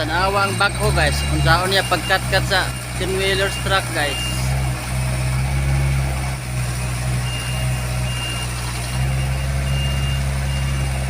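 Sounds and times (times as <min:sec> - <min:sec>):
reversing alarm beeping: 0:00.0 - 0:04.7, 0:06.7 - 0:11.0
diesel engine running: 0:00.0 - 0:11.0.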